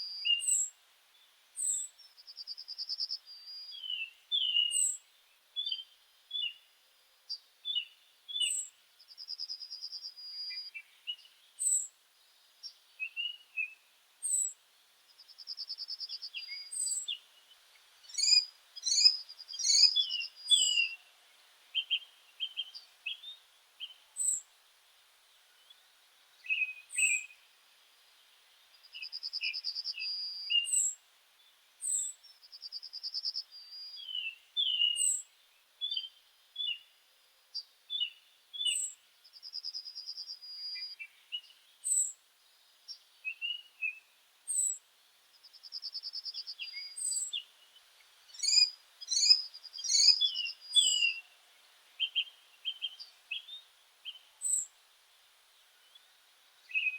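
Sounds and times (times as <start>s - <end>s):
small birds singing and chirping: 0.0s - 56.9s.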